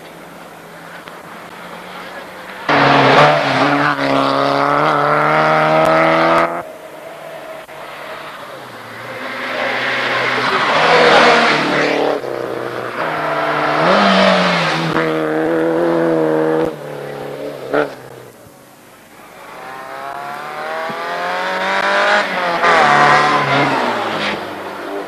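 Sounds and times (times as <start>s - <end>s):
rally cars passing at full throttle: 0.0s - 25.0s.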